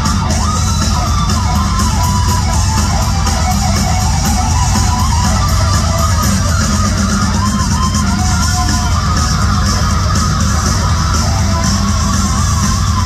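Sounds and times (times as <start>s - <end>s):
bass guitar: 0.0s - 13.0s
drum kit with cymbal strikes: 0.0s - 13.0s
electric guitar melody: 0.0s - 13.0s.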